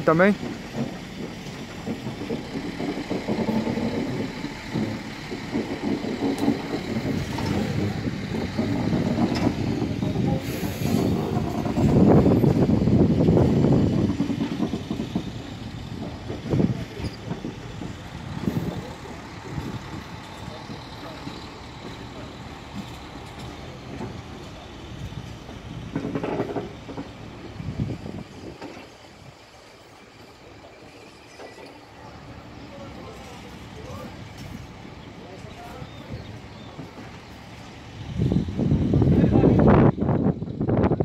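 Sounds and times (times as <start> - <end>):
train engine running: 0.0 - 41.0
train wheels clattering on track: 0.0 - 41.0.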